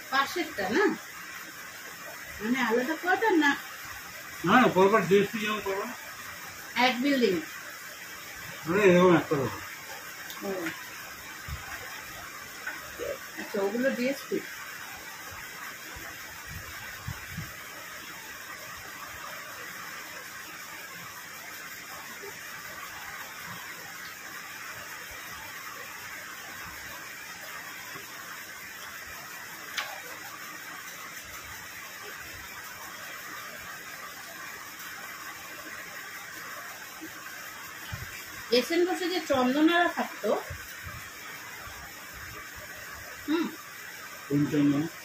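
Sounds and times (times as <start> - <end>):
room noise hiss: 0.0 - 45.0.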